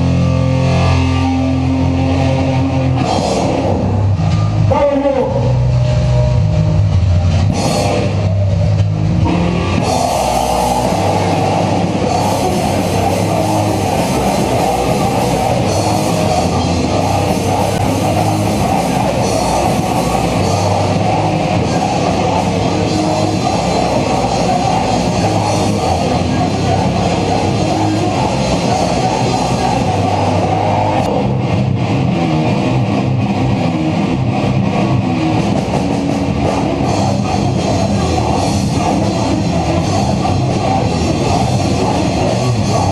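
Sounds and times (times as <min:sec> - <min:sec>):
distorted electric guitars: 0:00.0 - 0:42.9
drum kit: 0:00.0 - 0:42.9.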